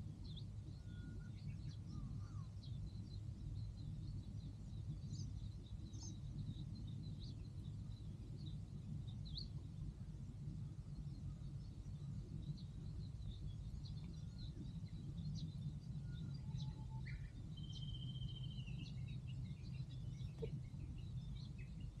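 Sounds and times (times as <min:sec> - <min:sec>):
low outdoor background noise: 0:00.0 - 0:22.0
small birds chirping: 0:00.1 - 0:22.0.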